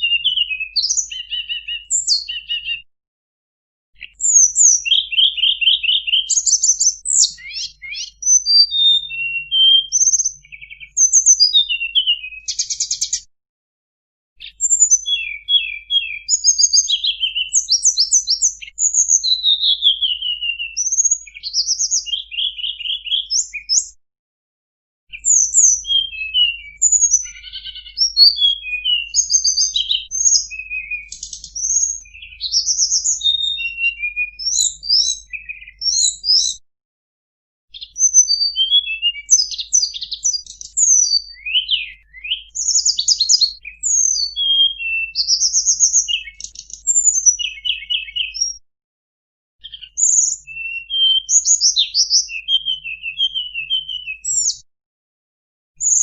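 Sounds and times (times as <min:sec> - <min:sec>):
bird singing chirps and trills: 0:00.0 - 0:02.8, 0:04.0 - 0:13.3, 0:14.4 - 0:24.0, 0:25.1 - 0:36.6, 0:37.7 - 0:48.6, 0:49.6 - 0:54.6, 0:55.8 - 0:56.0.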